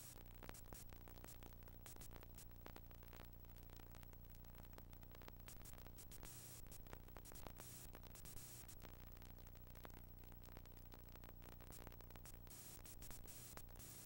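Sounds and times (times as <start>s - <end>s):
faint hiss: 0.0s - 14.0s.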